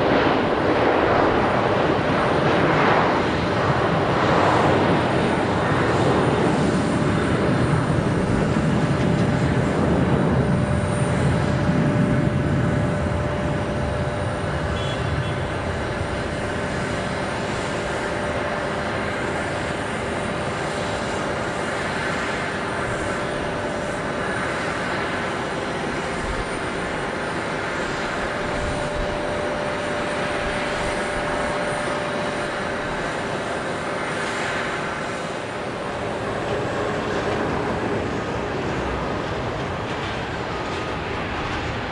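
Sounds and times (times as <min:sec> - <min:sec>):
jet airliner engines rumble: 0:00.0 - 0:41.9
jet engine whine: 0:00.0 - 0:41.9.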